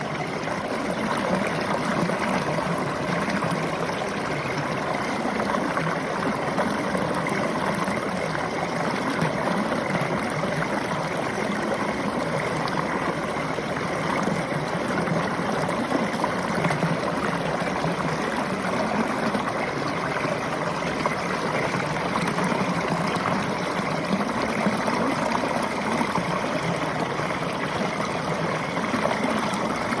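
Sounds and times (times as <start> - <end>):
river water flowing over stones: 0.0 - 30.0.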